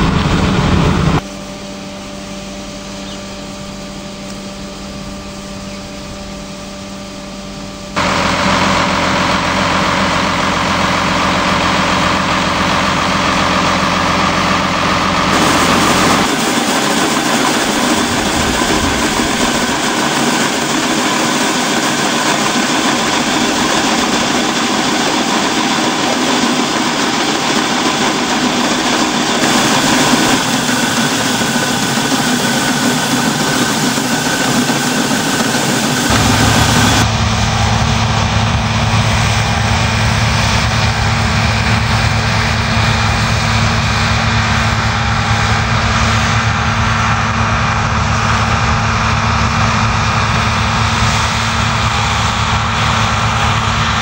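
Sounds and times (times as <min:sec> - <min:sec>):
grain-handling machinery: 0:00.0 - 0:54.0
tractor engine running: 0:00.0 - 0:54.0.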